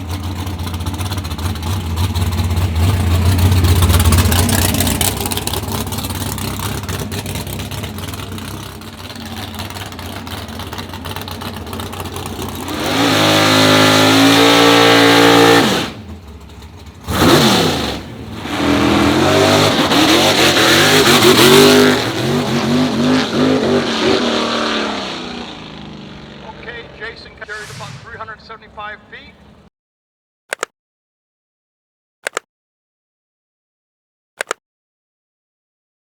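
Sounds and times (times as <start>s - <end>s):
engine at wide-open throttle: 0.0s - 29.7s.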